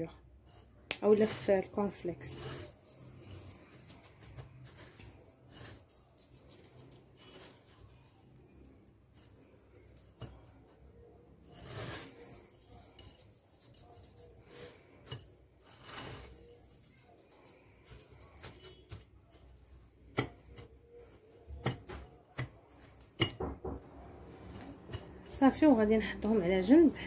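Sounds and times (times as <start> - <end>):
cornflakes rustling and crunching: 0.5 - 23.3, 24.2 - 27.0.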